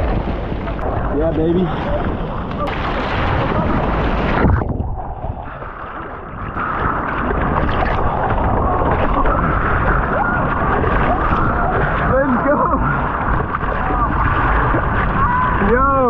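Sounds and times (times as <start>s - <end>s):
ocean surf: 0.0s - 16.0s
wind rushing over microphone: 0.0s - 16.0s.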